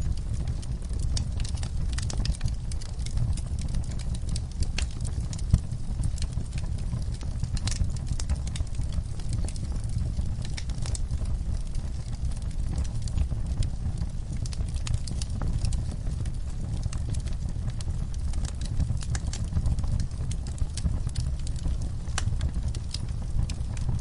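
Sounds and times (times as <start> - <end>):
sharp fire pops: 0.0 - 24.0
wood fire crackling: 0.0 - 24.0.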